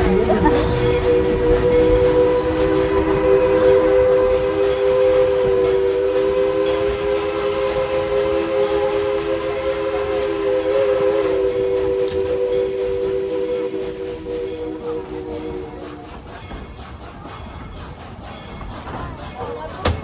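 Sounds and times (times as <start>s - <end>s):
steam locomotive chime whistle: 0.0s - 20.0s
train rumble: 0.0s - 20.0s.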